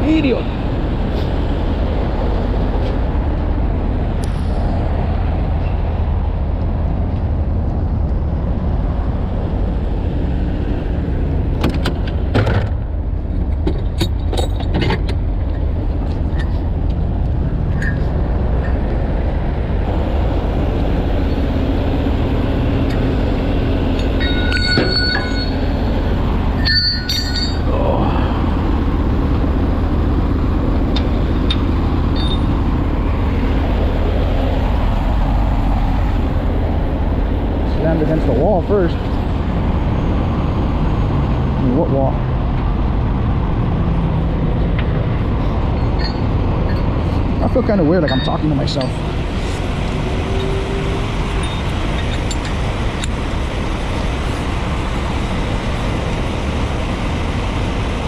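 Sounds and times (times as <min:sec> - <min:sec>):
freeway traffic: 0:00.0 - 0:58.0
heavy truck engines rumbling: 0:00.0 - 0:58.0.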